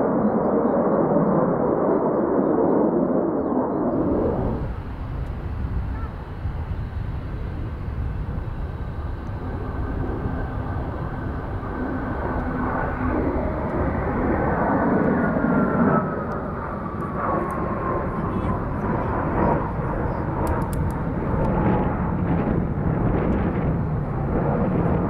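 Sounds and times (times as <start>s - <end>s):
jet engine rumble and whine: 0.0s - 25.0s.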